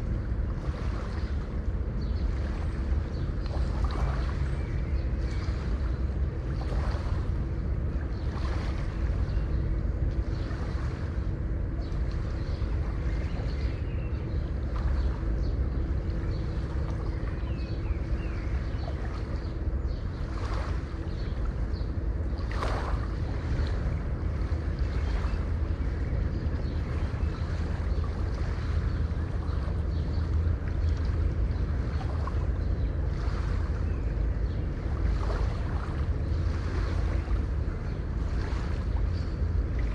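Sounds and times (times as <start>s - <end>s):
waves breaking: 0.0s - 39.9s
wind: 0.0s - 39.9s.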